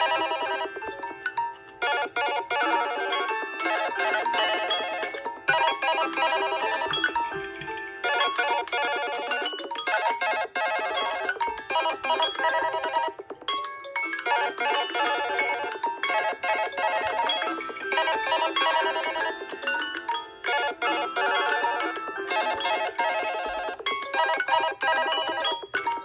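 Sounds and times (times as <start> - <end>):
smartphone ring melody: 0.0 - 26.0.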